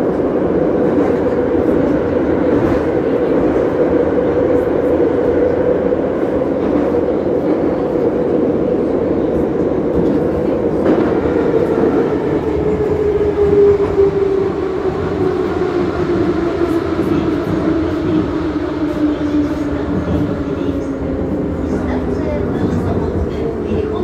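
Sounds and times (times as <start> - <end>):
metro train rumbling: 0.0 - 24.0.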